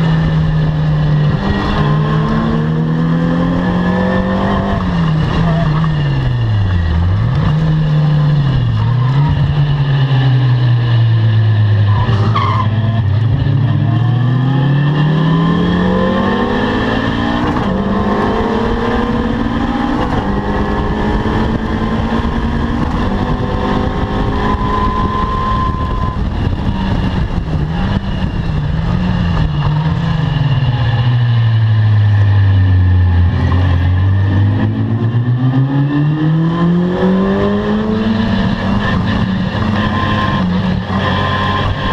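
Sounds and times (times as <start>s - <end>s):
racing car engine revving: 0.0s - 41.9s.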